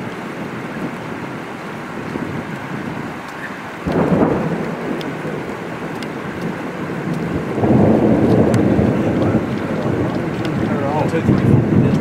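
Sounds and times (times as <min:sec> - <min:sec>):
raindrops ticking: 0:00.0 - 0:12.0
steady rain: 0:00.0 - 0:12.0
thunder rumbling: 0:00.0 - 0:12.0.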